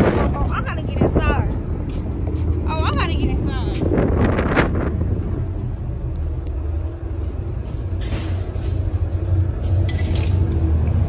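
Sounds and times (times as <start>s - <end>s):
boat engines rumbling: 0.0s - 11.0s
faint constant hum: 0.0s - 11.0s.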